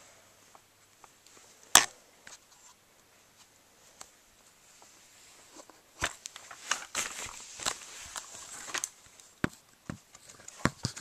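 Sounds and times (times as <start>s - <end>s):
handling clicks and rustling: 0.5s - 11.0s.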